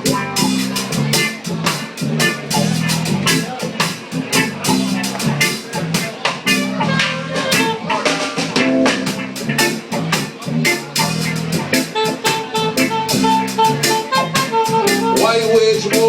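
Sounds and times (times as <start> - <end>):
drum strikes: 0.0 - 16.0
guitar: 0.0 - 16.0
live band playing: 0.0 - 16.0.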